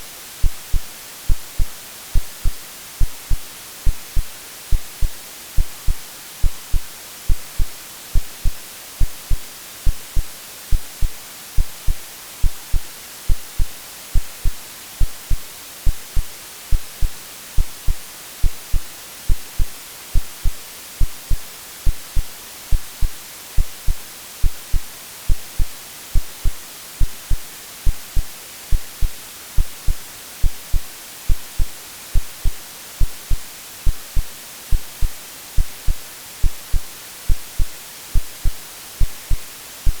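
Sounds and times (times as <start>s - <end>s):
white noise hiss: 0.0s - 40.0s
heartbeat thumps: 0.4s - 40.0s.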